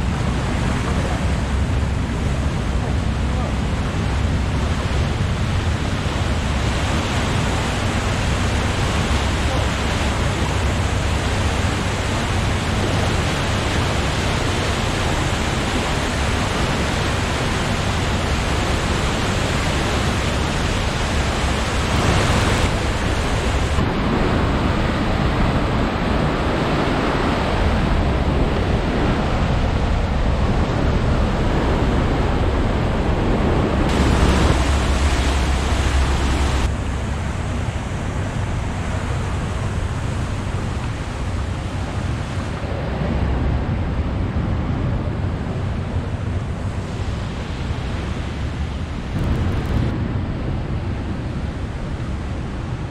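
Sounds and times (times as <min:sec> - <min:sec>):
whitewater rushing: 0:00.0 - 0:45.4.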